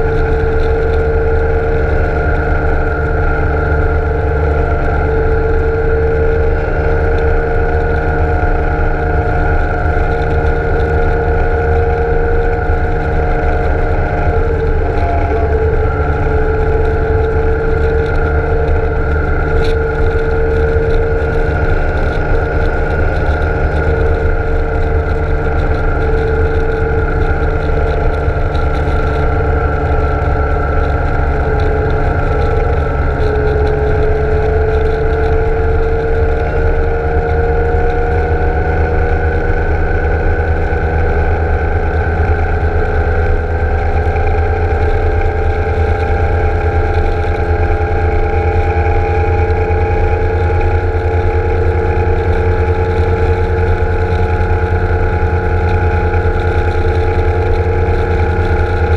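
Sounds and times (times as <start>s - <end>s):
motorcycle engine droning: 0.0s - 58.9s
wind rumble on microphone: 0.0s - 58.9s.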